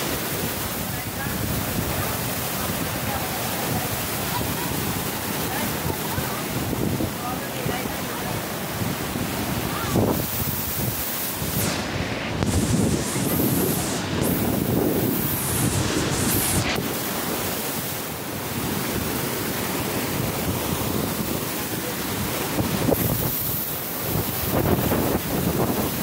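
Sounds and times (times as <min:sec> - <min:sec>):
waves breaking on shore: 0:00.0 - 0:26.0
wind buffeting microphone: 0:00.0 - 0:26.0.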